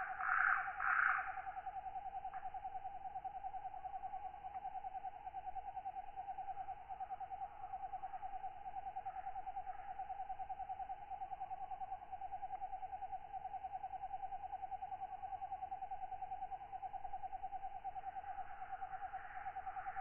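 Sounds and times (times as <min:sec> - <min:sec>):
night insects: 0:00.0 - 0:20.0.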